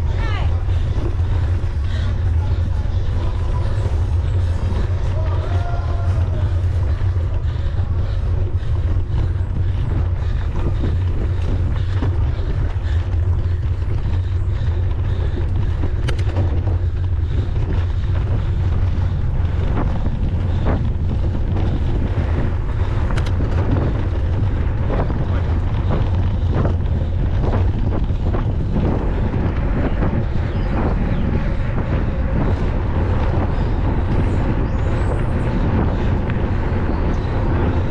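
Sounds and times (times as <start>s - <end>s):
bike clicking and rattling: 0.0s - 37.9s
wind buffeting microphone: 0.0s - 37.9s.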